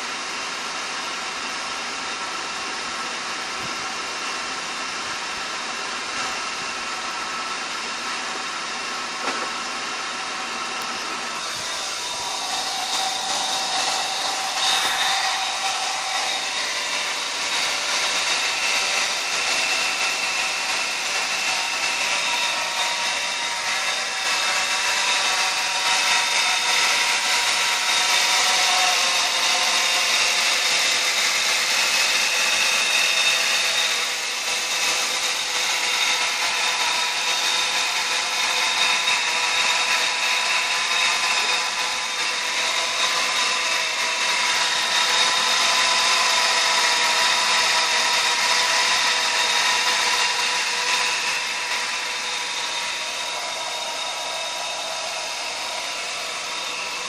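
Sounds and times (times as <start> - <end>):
whirring whine: 0.0 - 57.0.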